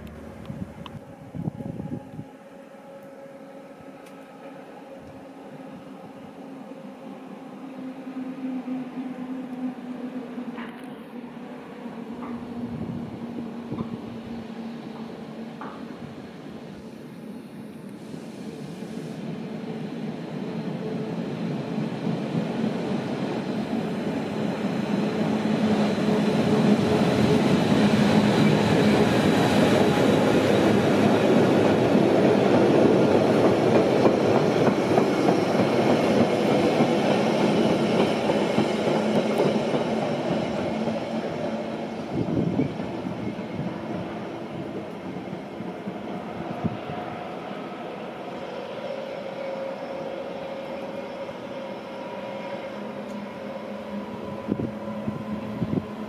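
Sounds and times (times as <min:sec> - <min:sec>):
train wheels on rails: 0:10.3 - 0:56.0.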